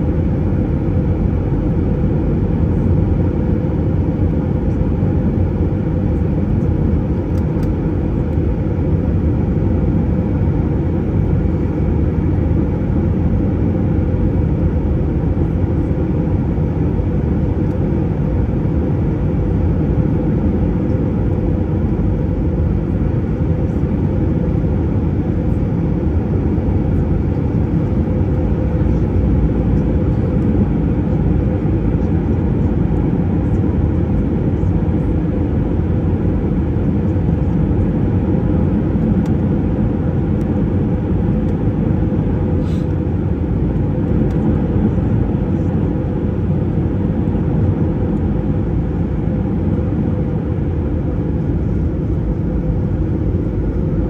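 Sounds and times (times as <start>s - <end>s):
jet engines and airflow rumble: 0.0s - 54.0s.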